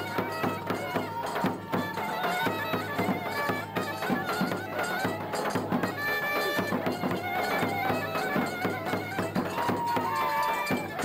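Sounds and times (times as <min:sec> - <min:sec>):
drum beat: 0:00.0 - 0:11.0.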